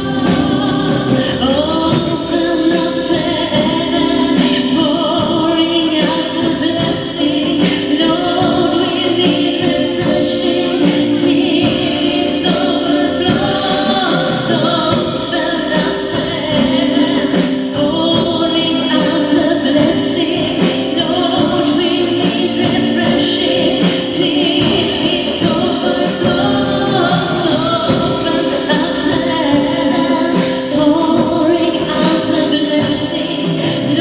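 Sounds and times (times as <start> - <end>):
drum kit: 0.0 - 34.0
keyboard: 0.0 - 34.0
woman singing into a microphone: 0.0 - 34.0.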